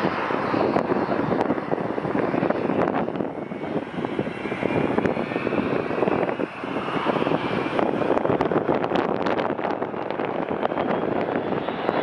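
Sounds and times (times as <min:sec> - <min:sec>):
faint high engine whine: 0:00.0 - 0:12.0
jet engines rumbling at high power: 0:00.0 - 0:12.0.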